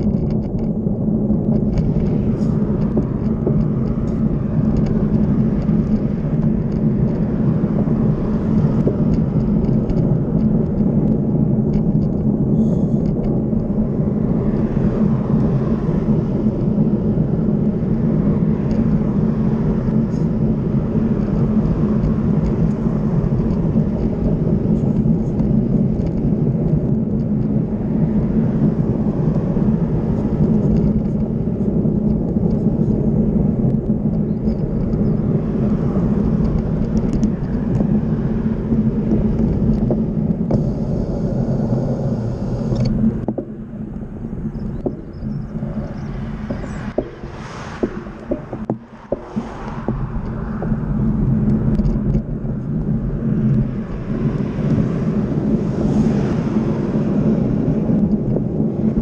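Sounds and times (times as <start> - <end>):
bicycle tyres rolling: 0.0 - 59.0
cars passing: 0.0 - 59.0
wind rush: 0.0 - 59.0.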